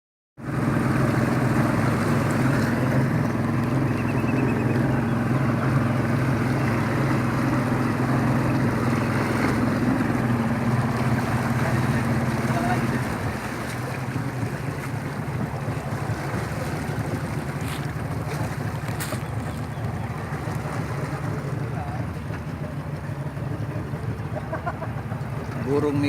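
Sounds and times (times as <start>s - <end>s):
boat motor running: 0.4s - 26.0s.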